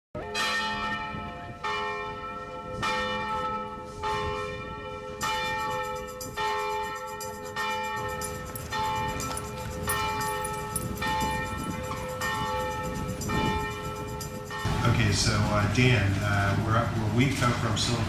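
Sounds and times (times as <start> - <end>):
church bell tolling: 0.2 - 17.3.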